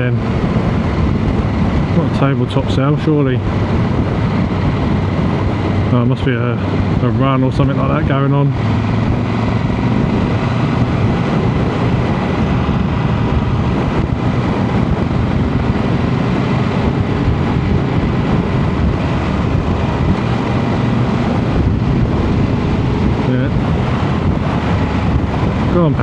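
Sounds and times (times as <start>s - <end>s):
motorcycle engine: 0.0s - 26.0s
wind rushing over microphone: 0.0s - 26.0s.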